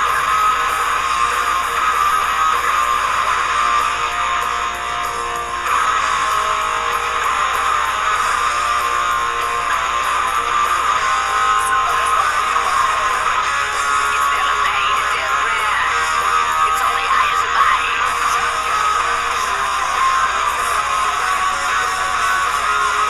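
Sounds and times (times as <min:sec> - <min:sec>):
rock band with electric guitars: 0:00.0 - 0:23.0.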